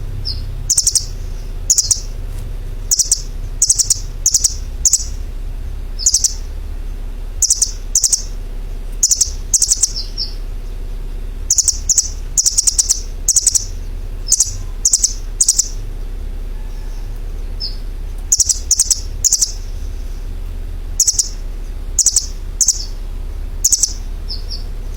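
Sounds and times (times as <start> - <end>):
steady low hum: 0.0 - 24.9
bird chirping: 0.1 - 2.2, 2.8 - 5.3, 5.9 - 6.6, 7.4 - 10.8, 11.4 - 15.9, 16.6 - 24.9.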